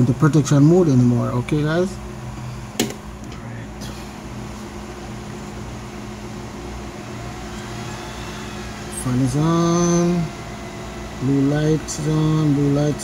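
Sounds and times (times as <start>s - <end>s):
amplifier cooling fan humming: 0.0s - 13.0s.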